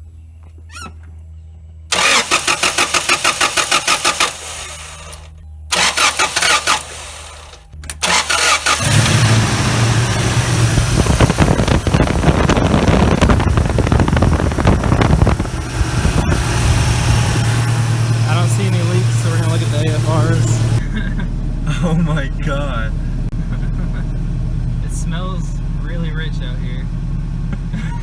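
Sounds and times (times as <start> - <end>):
engine starting and running: 1.0 - 28.0
engine cranked by starter: 1.9 - 28.0.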